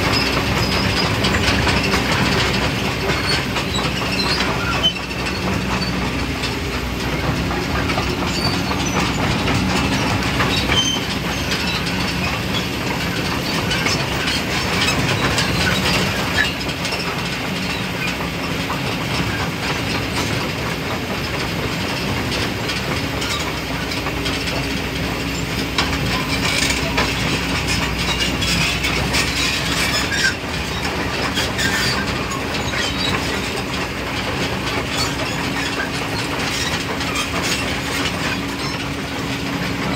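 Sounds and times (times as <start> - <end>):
excavator diesel engine running: 0.0 - 39.9
mechanical clattering and clanking: 0.0 - 39.9.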